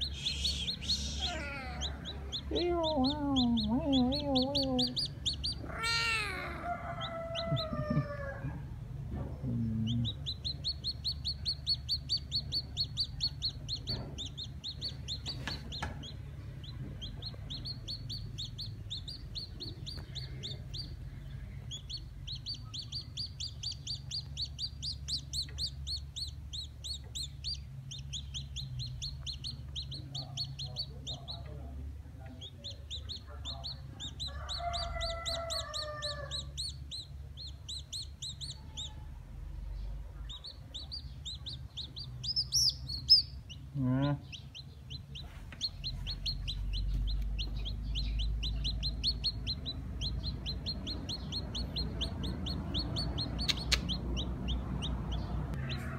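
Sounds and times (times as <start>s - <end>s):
chick peeping: 0.0s - 55.9s.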